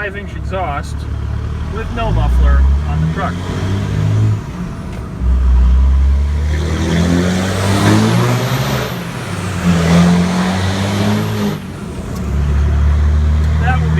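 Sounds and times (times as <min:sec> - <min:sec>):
diesel engine accelerating: 0:00.0 - 0:13.9.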